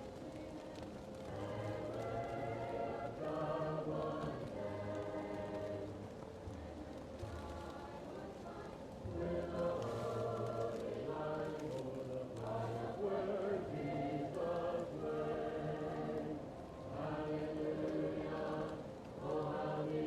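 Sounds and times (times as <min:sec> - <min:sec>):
fireplace crackling: 0:00.0 - 0:20.0
muffled choir singing: 0:00.0 - 0:20.0.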